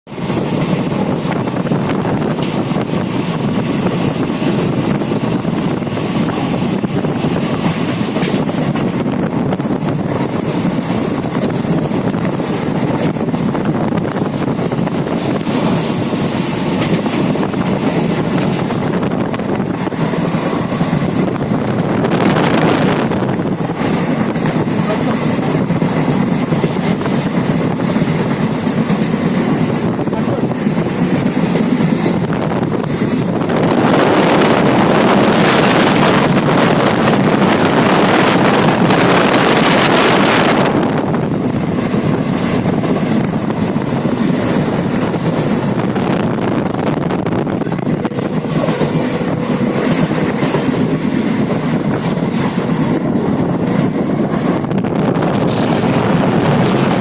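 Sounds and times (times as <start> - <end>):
moving vehicle rumble: 0.1 - 57.0
wind on microphone: 0.1 - 57.0.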